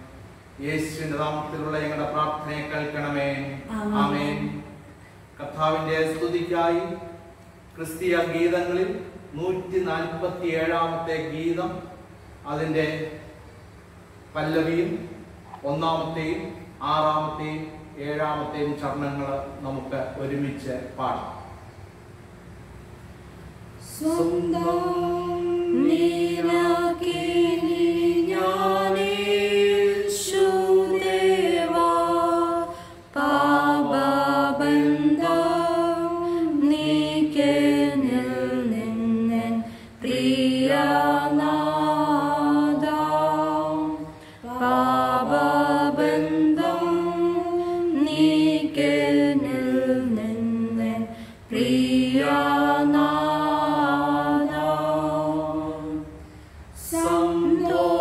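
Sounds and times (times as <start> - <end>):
hymn being sung: 0.0 - 13.3, 23.8 - 58.0.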